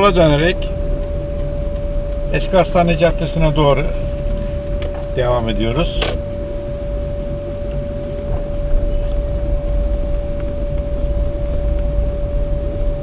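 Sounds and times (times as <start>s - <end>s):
car engine and tyres rumbling: 0.0s - 13.0s
high-pitched whine: 0.0s - 13.0s.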